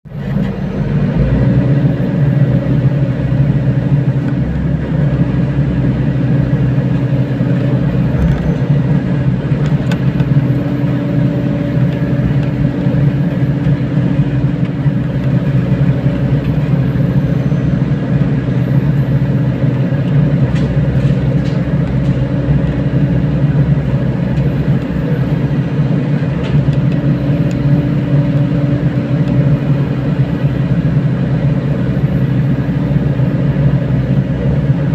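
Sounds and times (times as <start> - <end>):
excavator engine running: 0.1 - 34.9.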